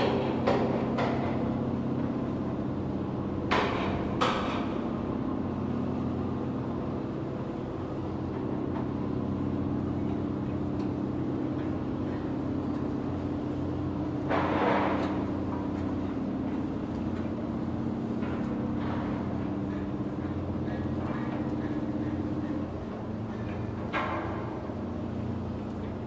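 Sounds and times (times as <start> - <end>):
low machinery drone: 0.0 - 26.0.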